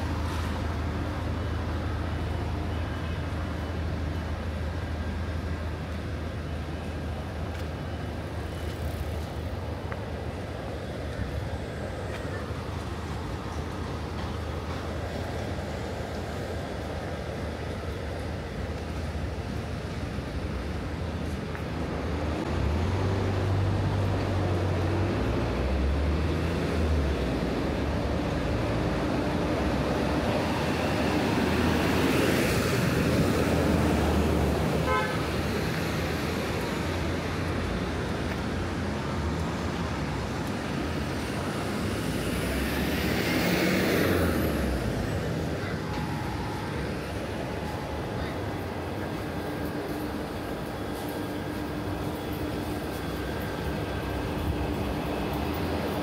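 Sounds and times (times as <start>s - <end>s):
vehicle engines running: 0.0s - 56.0s
vehicles passing: 0.0s - 56.0s.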